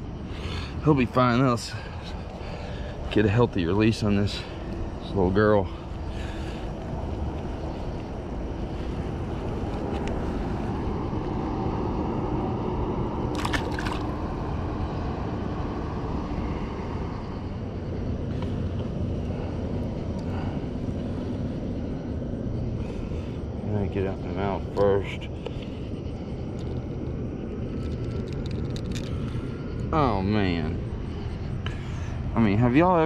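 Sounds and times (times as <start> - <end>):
distant engine rumble: 0.0 - 33.0.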